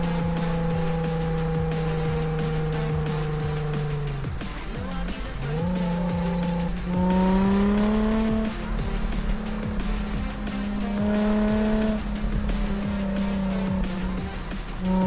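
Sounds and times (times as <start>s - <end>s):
background music: 0.0s - 15.0s
car exhaust accelerating: 0.0s - 15.0s.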